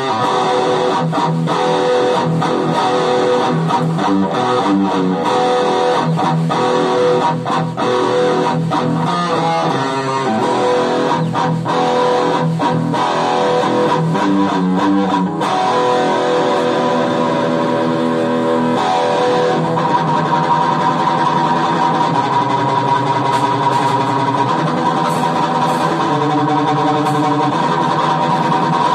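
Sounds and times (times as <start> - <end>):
electric guitar metal riffs: 0.0 - 28.9.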